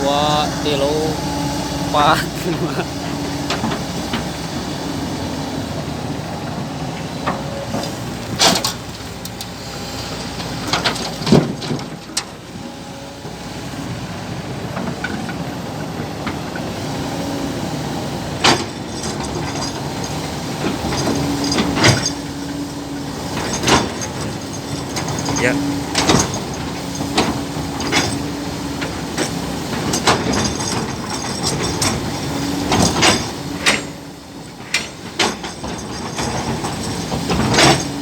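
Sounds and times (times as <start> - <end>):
excavator engine and hydraulics droning: 0.0 - 38.0.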